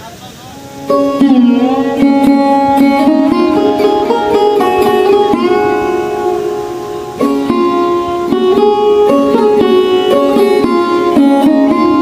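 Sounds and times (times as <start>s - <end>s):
plucked string instrument melody: 0.0s - 12.0s.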